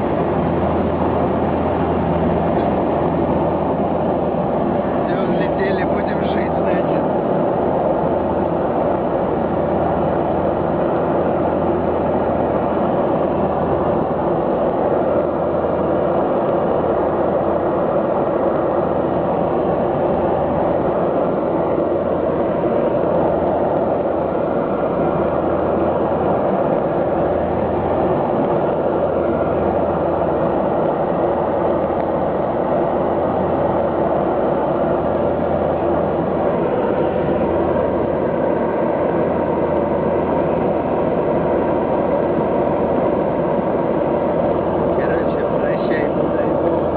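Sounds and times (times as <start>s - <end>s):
aircraft cabin engine noise: 0.0s - 46.9s.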